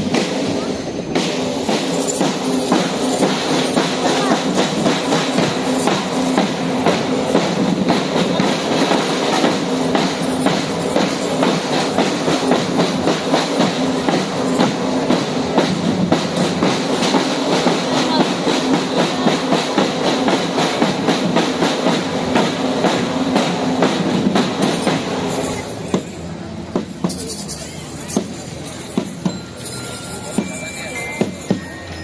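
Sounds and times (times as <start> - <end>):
train rumble: 0.0 - 32.0
train wheels clicking over rails: 0.0 - 32.0.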